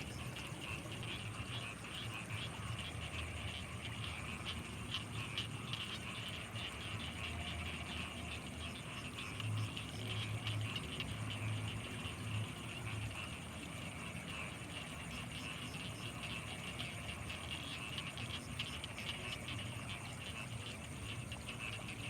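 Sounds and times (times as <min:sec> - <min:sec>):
frogs trilling: 0:00.0 - 0:22.0
high-pitched insect tone: 0:00.0 - 0:22.0
low frog croaks: 0:00.0 - 0:22.0.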